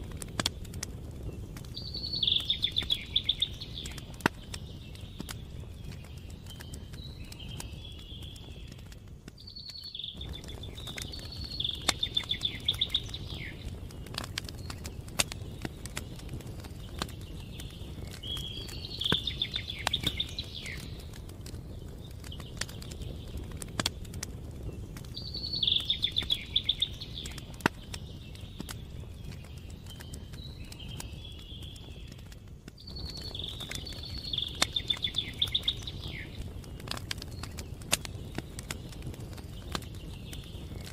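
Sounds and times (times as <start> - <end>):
campfire crackling: 0.0 - 40.9
songbird singing: 0.0 - 40.9.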